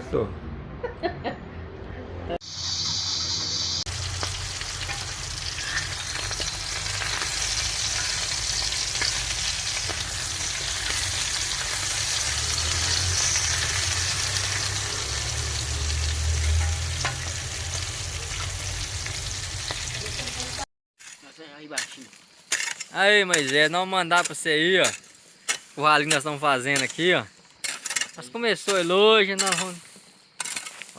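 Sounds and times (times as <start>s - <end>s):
food sizzling in hot fat: 2.4s - 30.9s.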